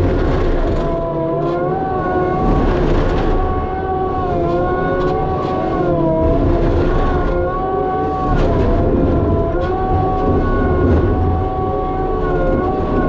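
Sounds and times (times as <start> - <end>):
debris crackling: 0.0 - 13.0
engine rumble with hydraulic whine: 0.0 - 13.0.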